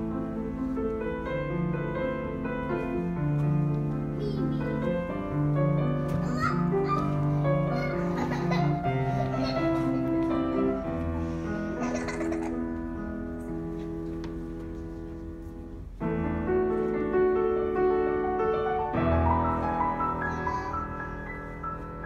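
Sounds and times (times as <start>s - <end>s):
grand piano chords and melody: 0.0s - 22.0s.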